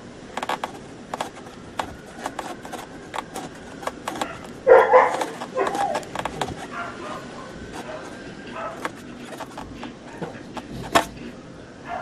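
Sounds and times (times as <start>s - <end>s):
sharp clicks and knocks: 0.3s - 11.2s.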